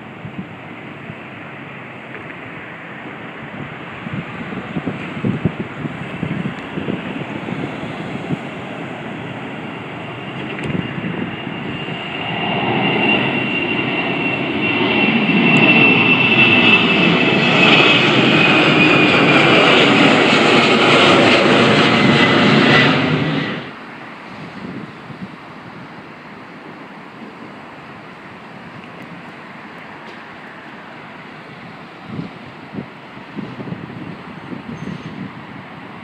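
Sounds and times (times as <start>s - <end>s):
airliner engine noise: 0.0s - 36.0s
high engine whine falling in pitch: 4.5s - 35.3s.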